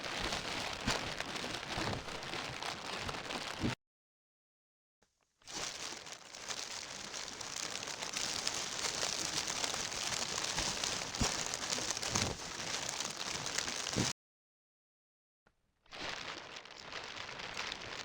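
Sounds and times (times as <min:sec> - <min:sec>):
slowed low plastic crackle: 0:00.0 - 0:03.8, 0:05.5 - 0:14.1, 0:15.8 - 0:18.0.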